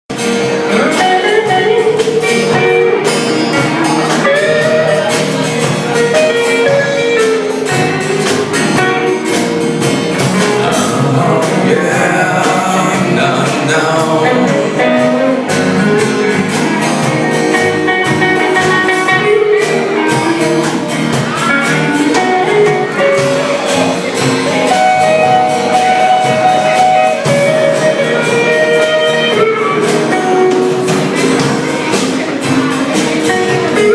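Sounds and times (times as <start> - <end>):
electric guitar: 0.1 - 33.9
person singing: 0.6 - 9.2, 10.3 - 17.1, 17.8 - 33.9.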